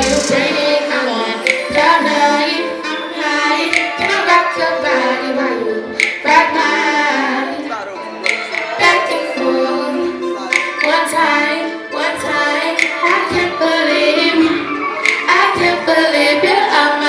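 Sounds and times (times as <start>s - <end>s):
backing music: 0.0s - 17.0s
high singing voice: 0.0s - 17.0s.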